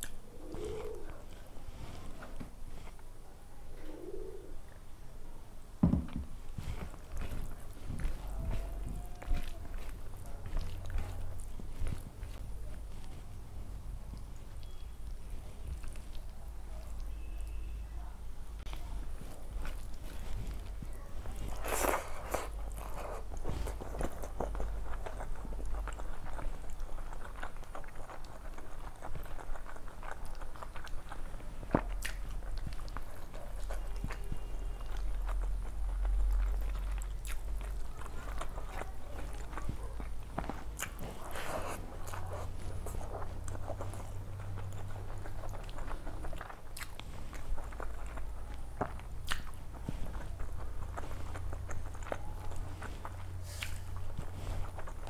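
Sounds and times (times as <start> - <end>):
wet chewing and mouth smacks: 0.0 - 2.2, 6.5 - 17.7, 18.6 - 55.0.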